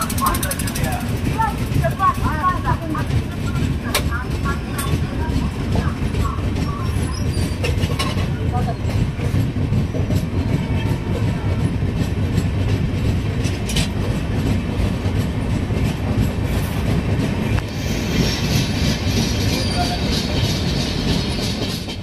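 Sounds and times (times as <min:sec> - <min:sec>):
wheels clicking over rail joints: 0:00.0 - 0:17.8
train rumbling along track: 0:00.0 - 0:22.0.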